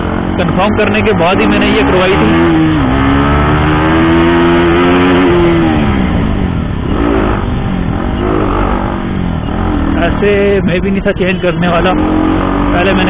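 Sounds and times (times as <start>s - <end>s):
motorcycle engine and exhaust: 0.0s - 13.0s.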